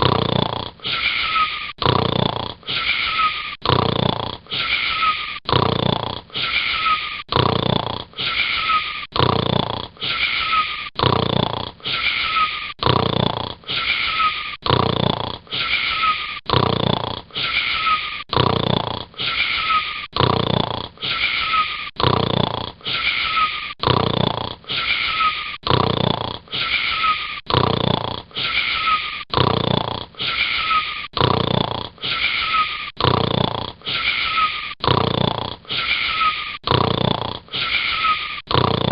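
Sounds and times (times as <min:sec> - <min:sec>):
snoring with whistling wheeze: 0:00.0 - 0:38.9.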